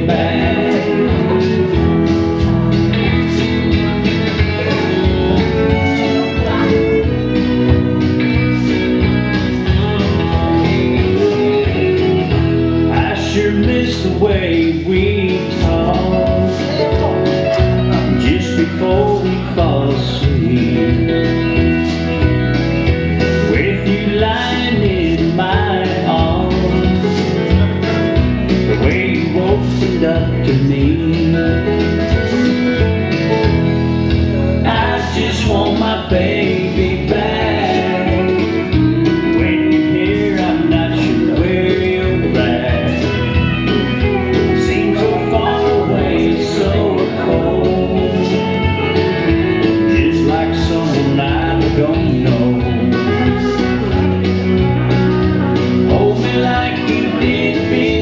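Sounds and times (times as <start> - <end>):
country song: 0.0 - 58.0.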